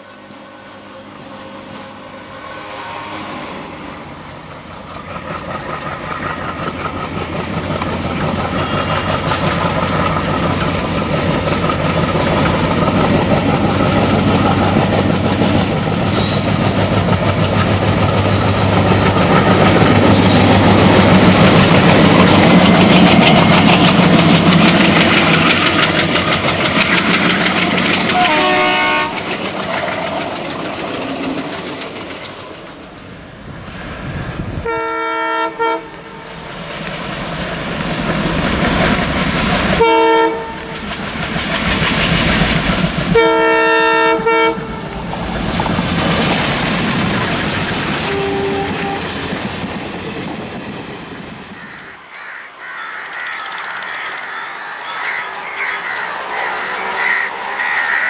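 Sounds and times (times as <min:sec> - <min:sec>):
diesel locomotive engine chugging: 0:00.0 - 0:58.0
train coaches rolling past: 0:00.0 - 0:58.0.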